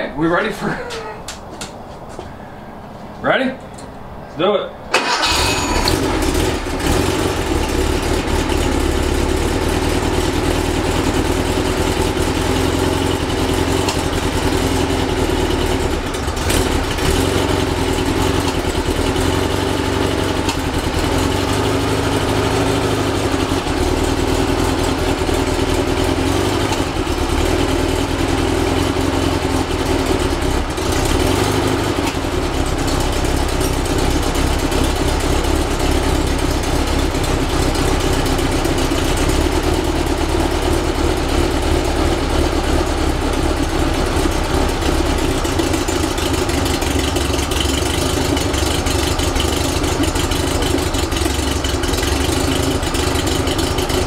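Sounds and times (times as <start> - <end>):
car engine idling: 4.9 - 54.0.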